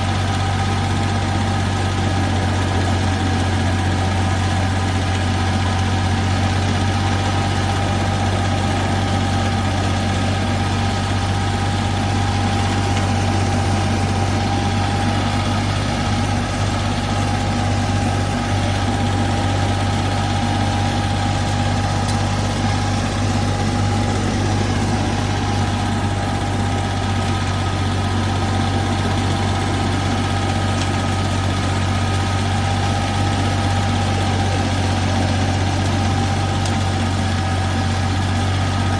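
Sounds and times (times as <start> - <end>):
mower engine hum with whine: 0.0 - 38.9.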